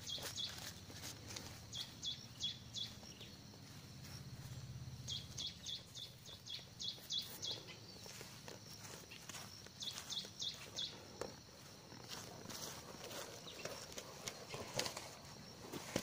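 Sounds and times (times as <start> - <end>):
bird chirping: 0.0 - 12.0, 13.1 - 15.0.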